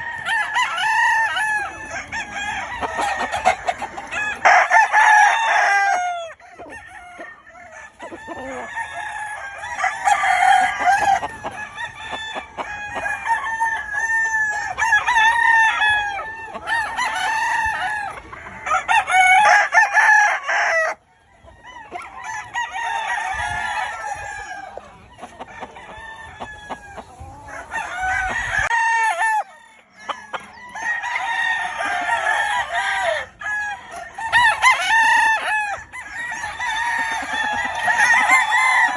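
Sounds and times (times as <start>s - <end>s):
hens clucking: 0.0s - 38.9s
roosters crowing: 0.0s - 38.9s.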